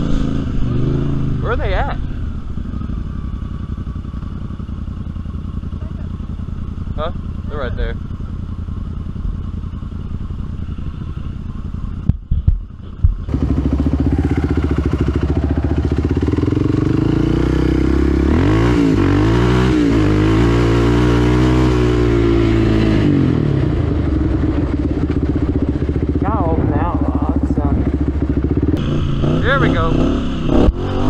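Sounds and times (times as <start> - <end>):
quad engine running: 0.0 - 31.0.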